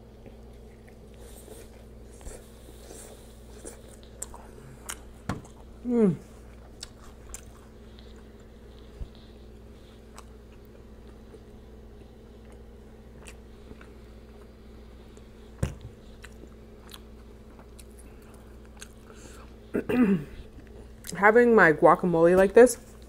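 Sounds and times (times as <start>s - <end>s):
steady low hum: 0.0s - 23.0s
chewing and biting crunchy food: 0.1s - 5.8s, 6.4s - 19.6s.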